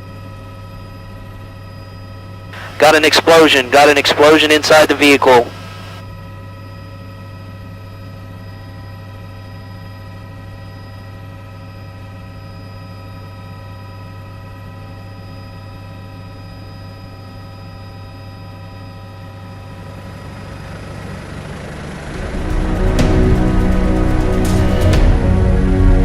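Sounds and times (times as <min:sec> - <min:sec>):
helicopter engine and rotors: 0:00.0 - 0:26.0.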